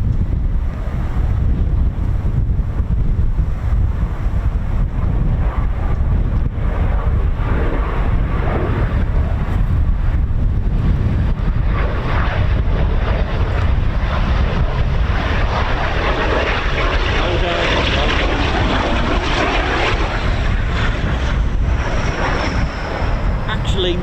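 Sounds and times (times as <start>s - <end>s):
jet engine noise: 0.0s - 24.0s
wind buffeting microphone: 0.0s - 24.0s.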